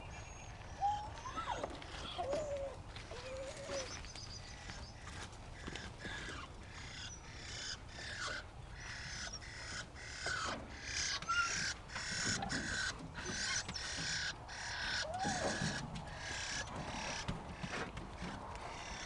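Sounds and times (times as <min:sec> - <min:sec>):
birds calling harshly: 0:00.0 - 0:19.0.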